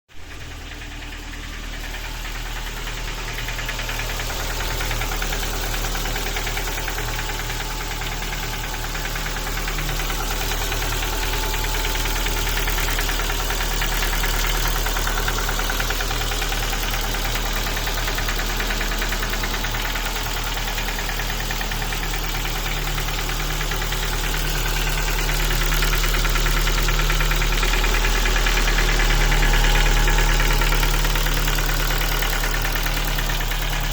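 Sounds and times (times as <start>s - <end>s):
car engine knocking: 0.2s - 33.9s.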